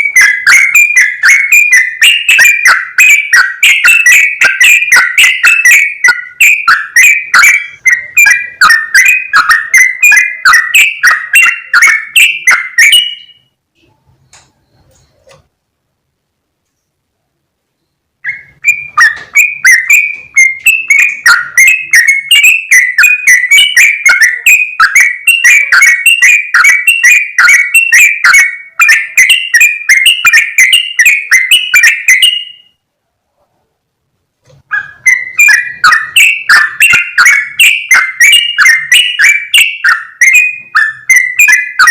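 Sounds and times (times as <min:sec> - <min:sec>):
bird chattering call: 0:00.0 - 0:13.4, 0:18.2 - 0:32.6, 0:34.7 - 0:41.9.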